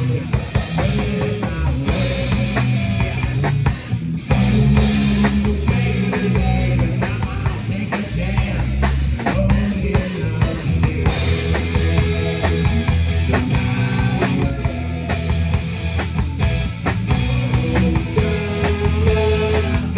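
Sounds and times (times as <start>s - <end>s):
drum kit beat: 0.0s - 19.9s
live rock band playing: 0.0s - 19.9s.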